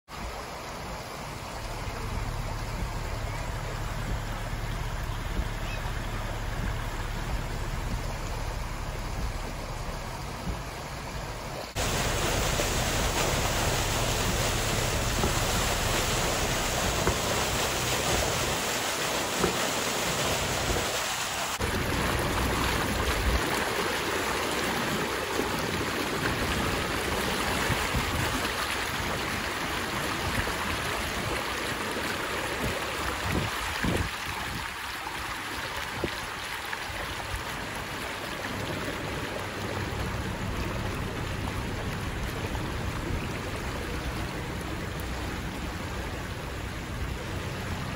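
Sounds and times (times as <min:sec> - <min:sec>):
water gushing from storm drain: 0:00.1 - 0:47.9
floodwater splashing against tyre: 0:00.4 - 0:47.9.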